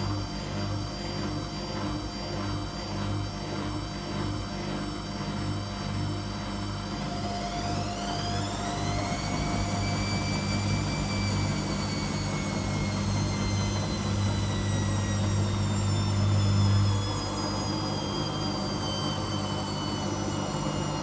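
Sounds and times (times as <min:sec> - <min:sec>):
washing machine drum spinning: 0:00.0 - 0:21.0.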